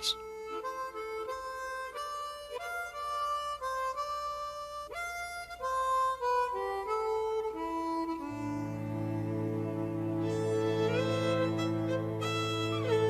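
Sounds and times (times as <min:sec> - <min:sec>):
harmonica slow melody: 0:00.0 - 0:13.0.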